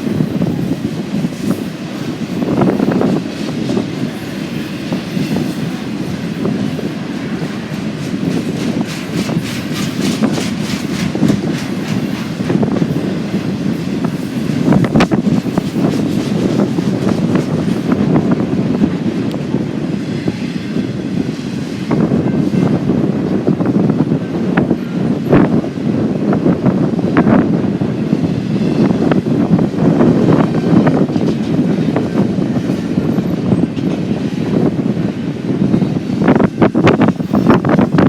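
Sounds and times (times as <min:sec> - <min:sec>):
low rumble of train: 0:00.0 - 0:38.0
train wheels clicking on rails: 0:00.0 - 0:38.0.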